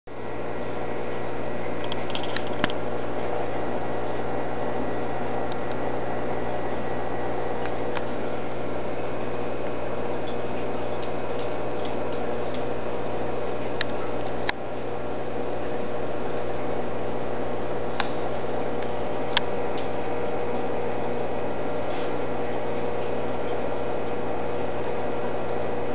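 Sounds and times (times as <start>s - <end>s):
aquarium equipment humming: 0.1s - 25.9s.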